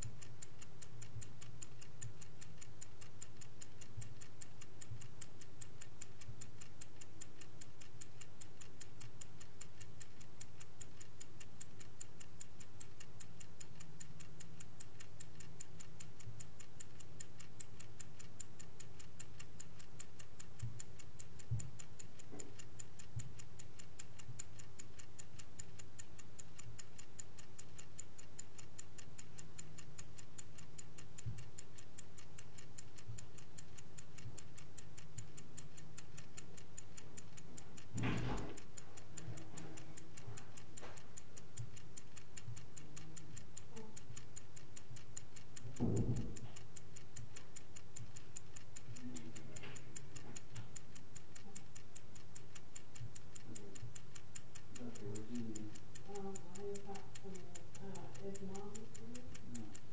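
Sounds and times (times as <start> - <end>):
mechanical clock ticking: 0.0 - 59.9.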